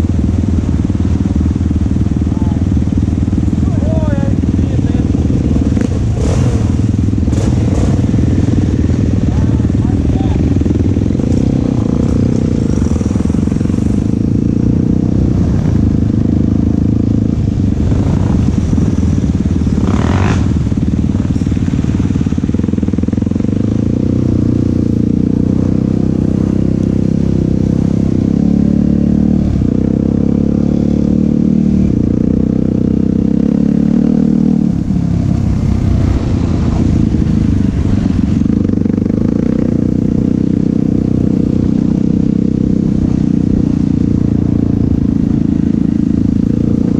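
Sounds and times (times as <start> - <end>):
quad engine revving: 3.4 - 46.9.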